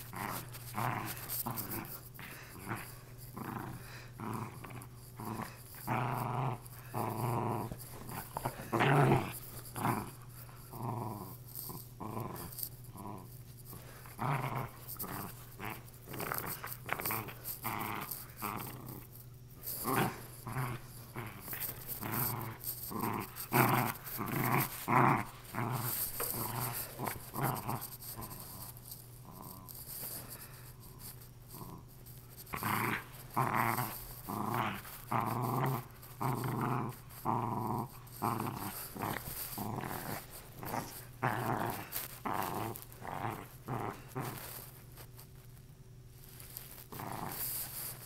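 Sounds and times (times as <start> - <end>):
dog play-growling: 0.0 - 45.4, 46.2 - 48.0.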